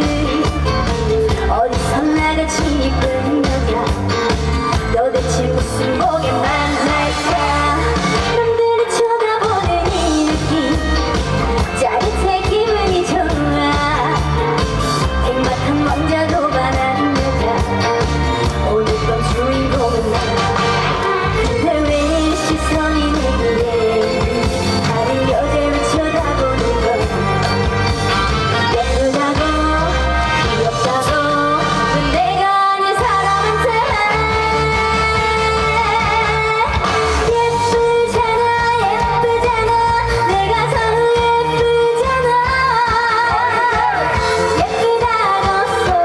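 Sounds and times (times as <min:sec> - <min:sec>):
woman singing: 0:00.0 - 0:27.9, 0:28.5 - 0:46.0
pop backing track with beat: 0:00.0 - 0:46.0.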